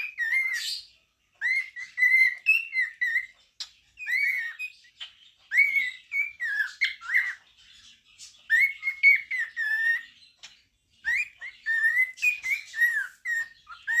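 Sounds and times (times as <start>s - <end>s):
cockatiel whistling and chirping: 0.0s - 14.0s.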